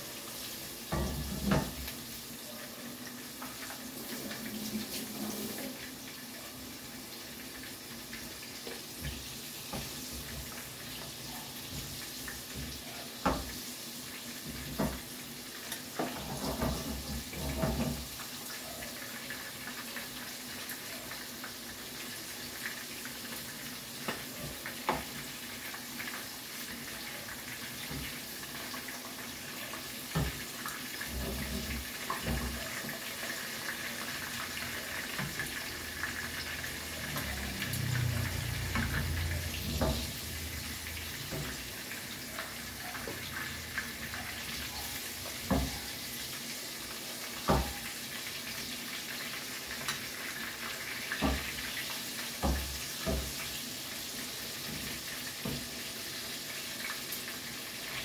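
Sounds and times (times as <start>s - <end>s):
deep-frying sizzle in oil: 0.0s - 58.0s.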